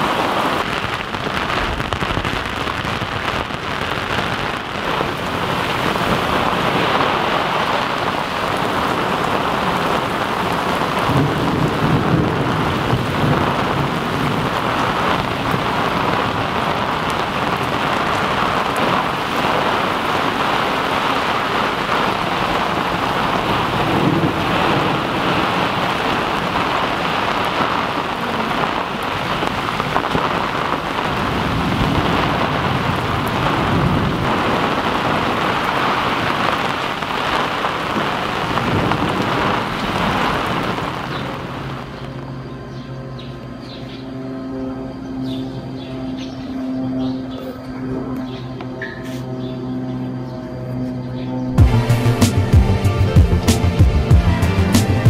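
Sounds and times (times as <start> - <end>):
heavy rain pouring: 0.0 - 48.7, 51.5 - 55.0
thunder rumbling: 0.0 - 48.7, 51.5 - 55.0.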